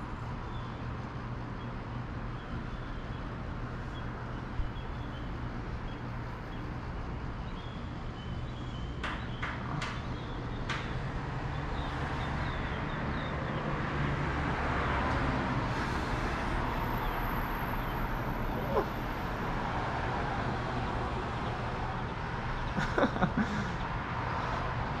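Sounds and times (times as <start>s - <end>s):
distant road traffic: 0.0s - 25.0s.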